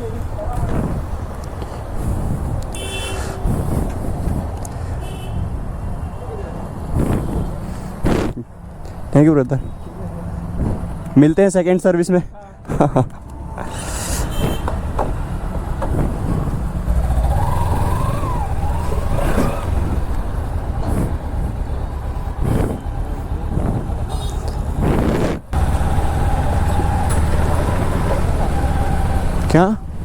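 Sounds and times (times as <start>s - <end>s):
traffic rumbling: 0.0s - 30.0s.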